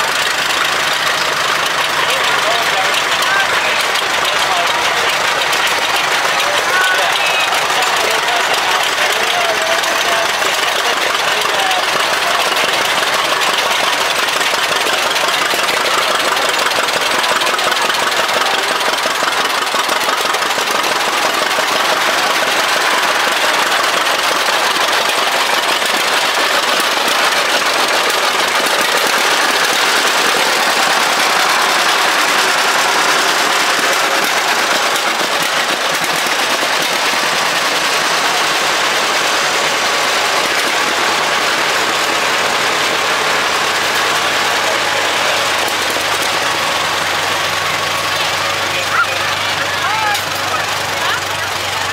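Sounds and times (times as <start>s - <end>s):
tractor engines running: 0.0s - 51.9s.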